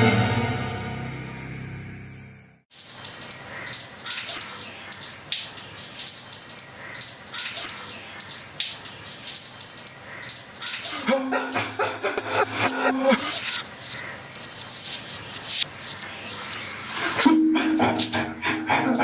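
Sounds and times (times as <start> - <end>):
water running and splashing: 2.7 - 19.0.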